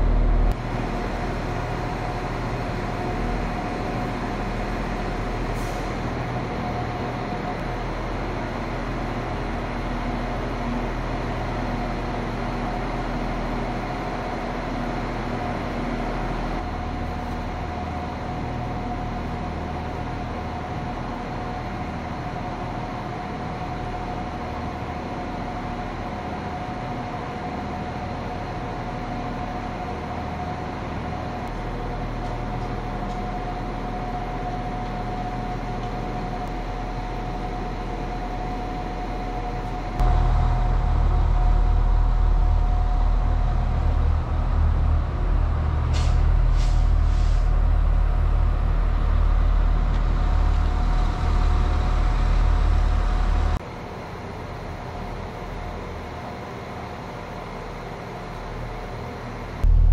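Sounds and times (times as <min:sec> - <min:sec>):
train engines idling: 0:00.0 - 0:59.9.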